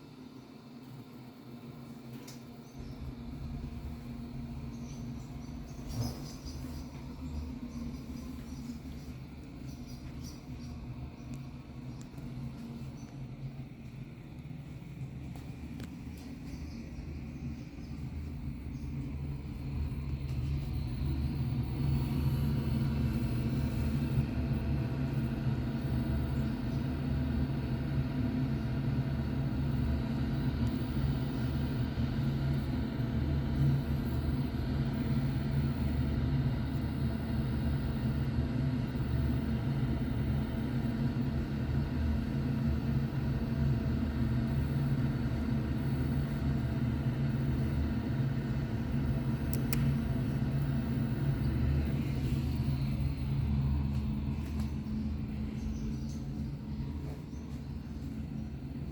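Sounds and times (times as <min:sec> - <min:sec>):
low humming rumble: 0:01.1 - 0:58.9.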